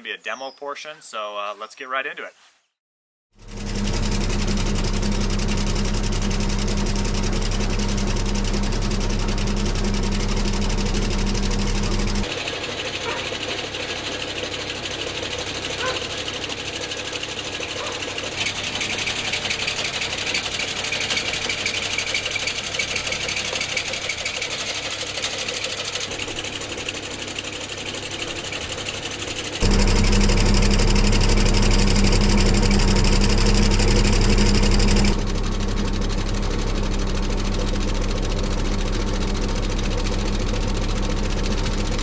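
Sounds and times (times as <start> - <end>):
skid steer engine under load: 3.4 - 42.0.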